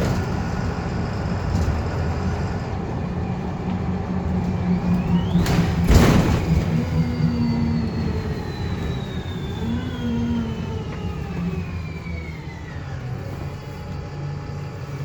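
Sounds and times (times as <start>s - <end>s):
bus engine and road rumble: 0.0s - 15.0s
falling whirring whine: 0.0s - 15.0s.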